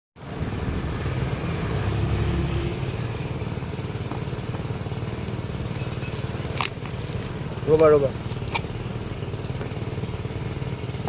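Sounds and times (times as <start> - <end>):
engine running: 0.2 - 11.0.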